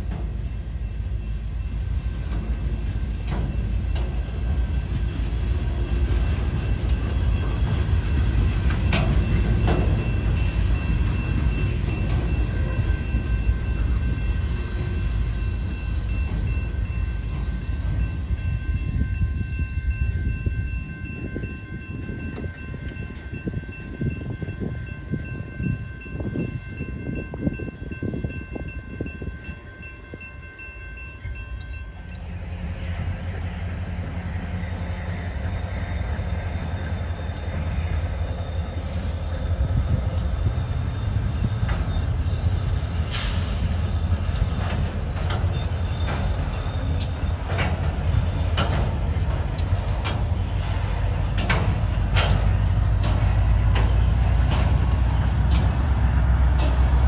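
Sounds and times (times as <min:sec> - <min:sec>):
locomotive engine droning: 0:00.0 - 0:57.0
steady high tones: 0:00.1 - 0:56.2.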